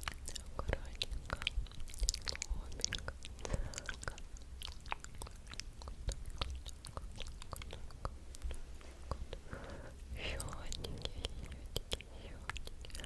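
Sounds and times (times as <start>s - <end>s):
wet lip and tongue clicks: 0.0s - 13.0s.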